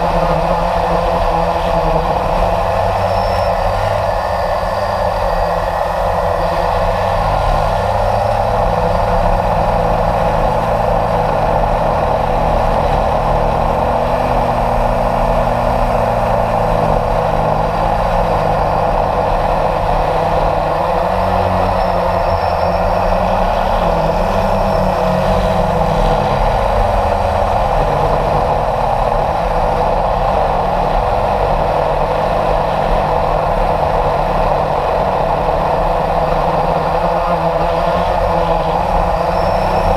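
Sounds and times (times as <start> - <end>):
model aircraft motor and propeller: 0.0 - 39.9.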